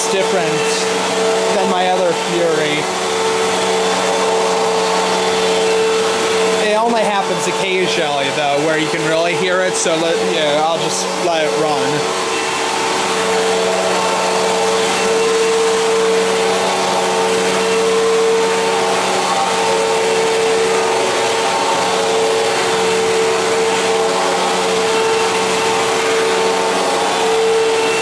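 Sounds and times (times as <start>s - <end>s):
vacuum cleaner motor hum: 0.0s - 28.0s.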